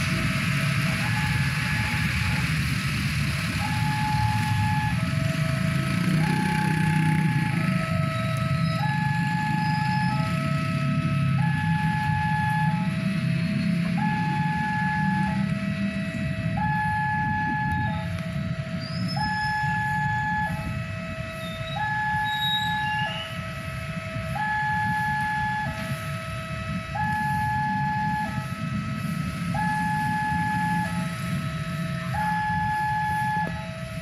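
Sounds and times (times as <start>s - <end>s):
level crossing warning bell: 0.0s - 34.0s
low rumble of train: 0.0s - 34.0s.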